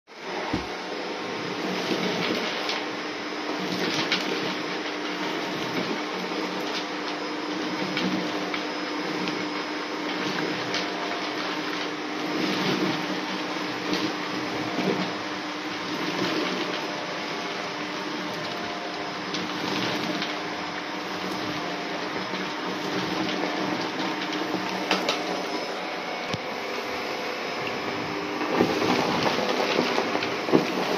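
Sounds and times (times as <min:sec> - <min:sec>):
vacuum cleaner motor whine: 0:00.1 - 0:30.9.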